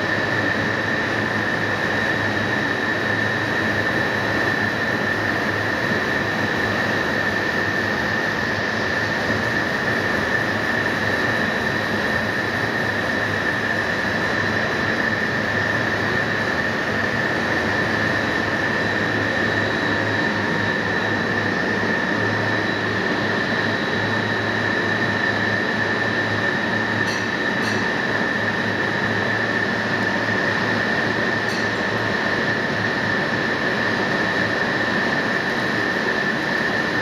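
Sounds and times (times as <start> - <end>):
machinery whine and hum: 0.0 - 37.0.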